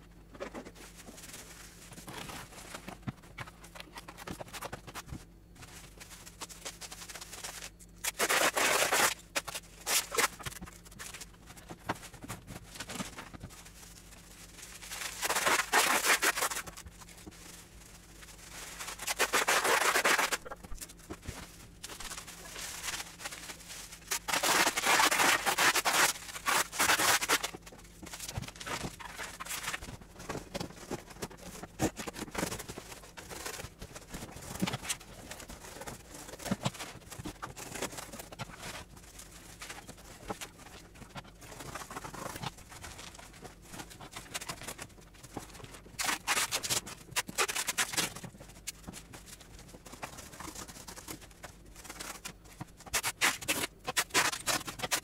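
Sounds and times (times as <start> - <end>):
cardboard scraping: 0.3 - 44.7
plastic wrap rustling: 0.3 - 55.0.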